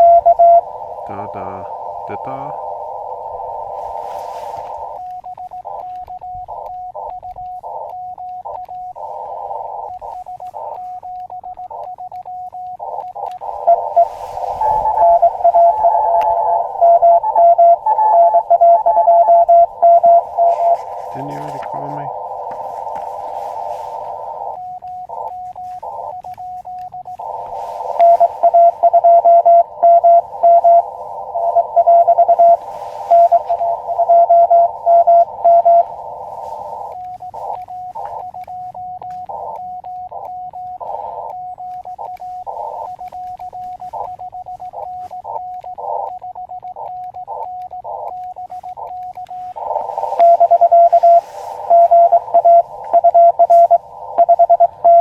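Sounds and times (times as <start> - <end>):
morse code tone: 0.0 - 55.0
radio receiver hiss: 0.0 - 55.0.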